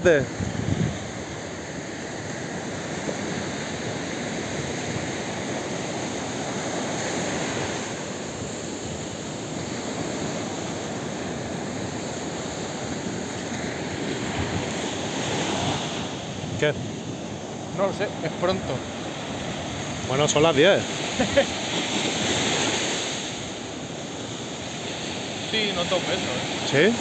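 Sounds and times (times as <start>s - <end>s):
surf washing onto beach: 0.0s - 27.0s.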